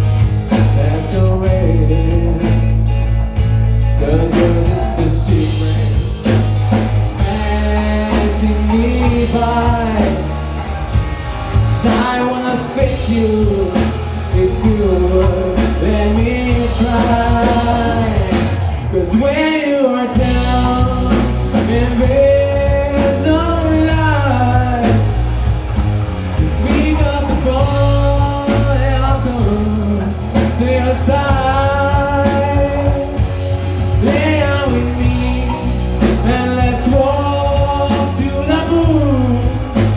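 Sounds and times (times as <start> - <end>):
live blues-rock band: 0.0 - 39.9
person singing: 0.5 - 3.0, 3.8 - 25.6, 26.2 - 39.9.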